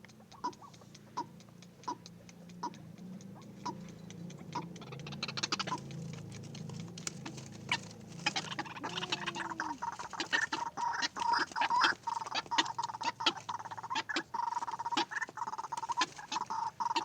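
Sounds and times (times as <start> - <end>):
waterhens clucking calls: 0.0 - 17.0.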